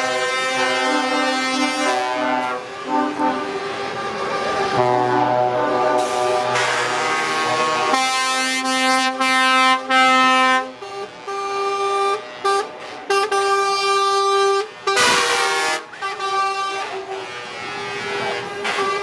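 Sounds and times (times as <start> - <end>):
truck air horns blasting: 0.0 - 19.0.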